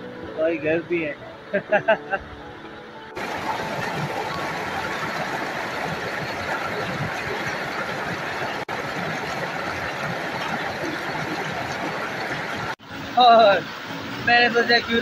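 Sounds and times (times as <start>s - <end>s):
stream rushing over rocks: 2.3s - 15.0s.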